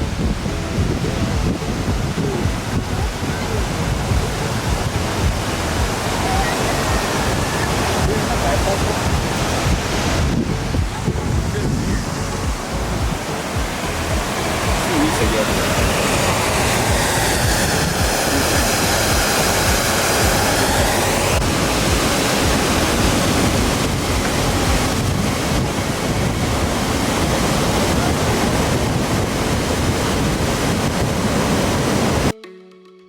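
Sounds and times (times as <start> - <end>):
waterfall rushing: 0.0 - 32.3.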